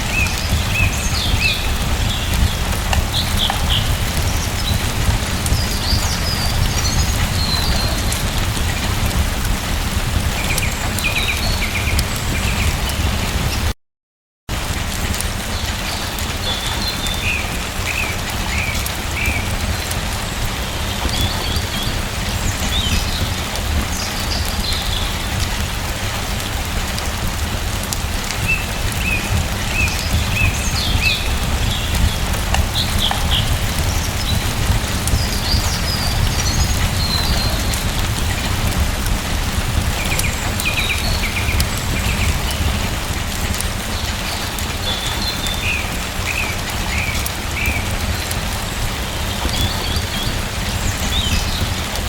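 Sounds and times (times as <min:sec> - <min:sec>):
small birds chirping: 0:00.0 - 0:13.7, 0:15.6 - 0:25.8, 0:28.2 - 0:52.0
steady rain falling: 0:00.0 - 0:13.8, 0:14.5 - 0:52.0.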